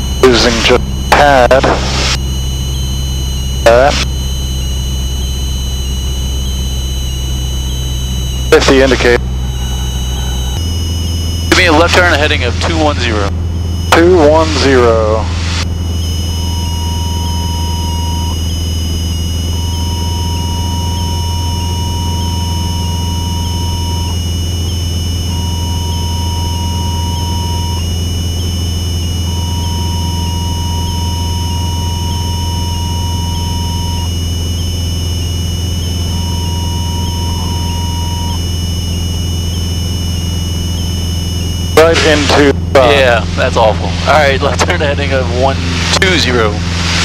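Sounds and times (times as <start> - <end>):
aircraft engine and propeller drone: 0.0 - 47.0
stall warning horn tone: 0.0 - 47.0.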